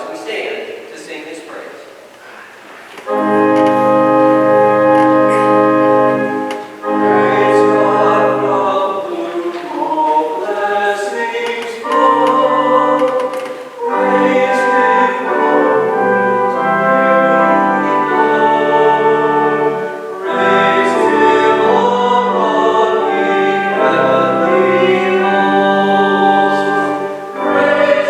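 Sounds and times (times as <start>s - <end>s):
church organ playing a hymn: 2.9s - 28.0s
voices singing: 2.9s - 28.0s.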